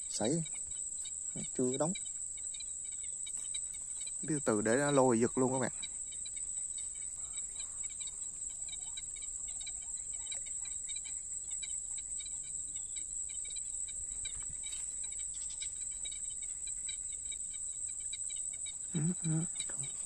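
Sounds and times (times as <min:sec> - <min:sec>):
faint insect chirping: 0:00.0 - 0:20.0
insect high-pitched drone: 0:00.0 - 0:20.0.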